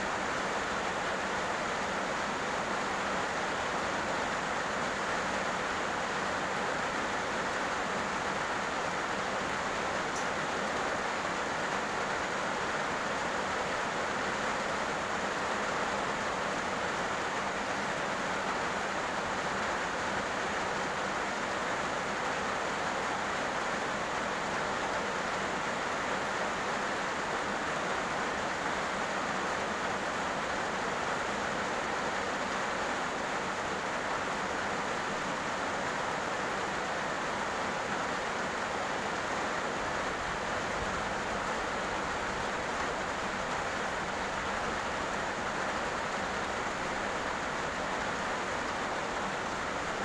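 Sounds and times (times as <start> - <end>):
heavy rain on a road: 0.0 - 50.0.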